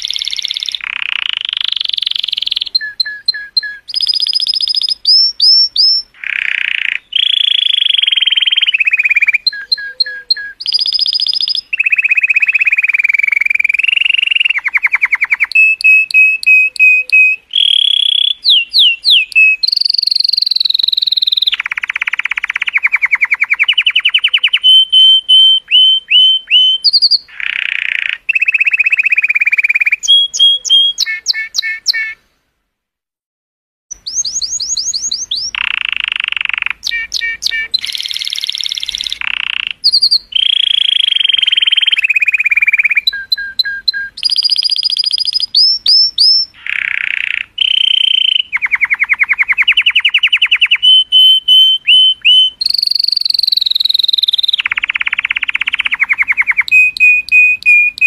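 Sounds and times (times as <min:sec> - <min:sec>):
canary singing: 0:00.0 - 0:32.2, 0:33.9 - 0:58.0.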